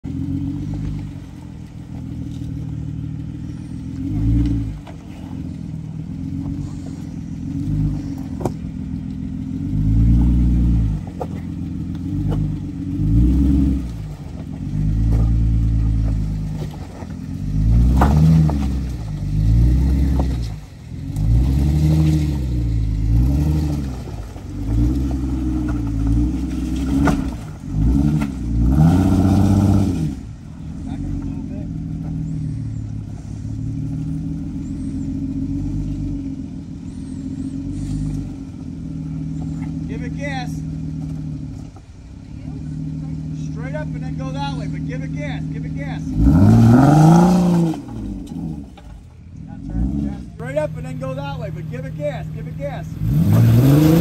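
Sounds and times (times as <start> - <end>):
car engine revving at low speed: 0.0 - 54.0.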